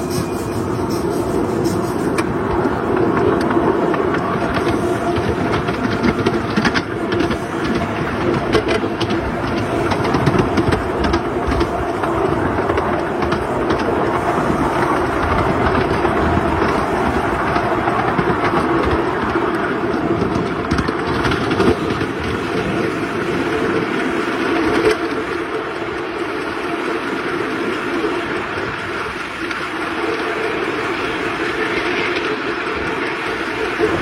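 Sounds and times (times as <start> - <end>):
steady rumbling noise: 0.0 - 34.0.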